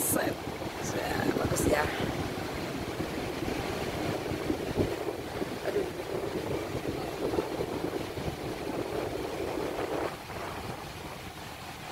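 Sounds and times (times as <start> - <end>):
surf washing onto beach: 0.0 - 11.9
wind on microphone: 0.0 - 11.9.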